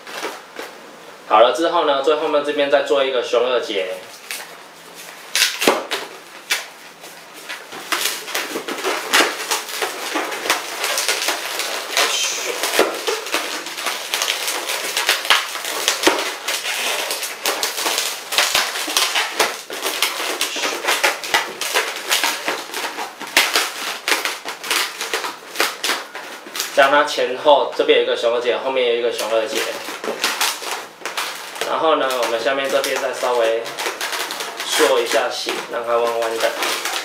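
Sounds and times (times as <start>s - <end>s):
balloon rubbing and crackling: 3.7s - 37.0s.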